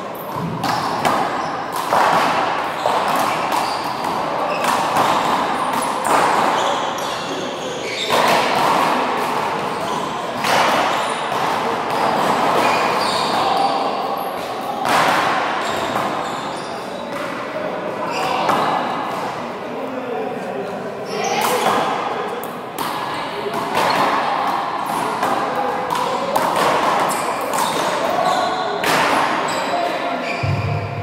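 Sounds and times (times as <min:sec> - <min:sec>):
voices: 0:00.0 - 0:31.0.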